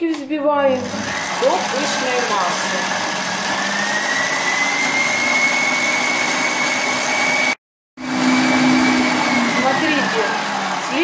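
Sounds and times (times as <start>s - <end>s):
stand mixer motor whine: 0.8s - 11.0s.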